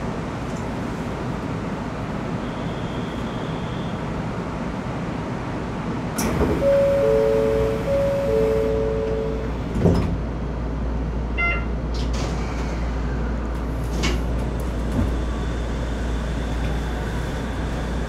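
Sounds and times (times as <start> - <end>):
low hum inside monorail car: 0.0 - 18.0.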